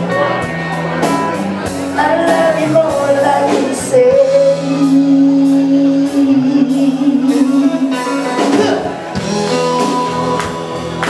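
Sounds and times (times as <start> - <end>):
live rock band: 0.0 - 11.0.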